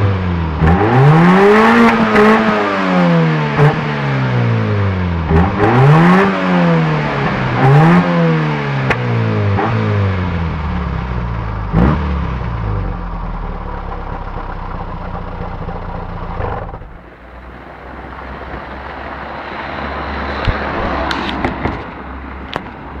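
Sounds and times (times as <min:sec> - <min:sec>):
car engine revving and idling: 0:00.0 - 0:23.0.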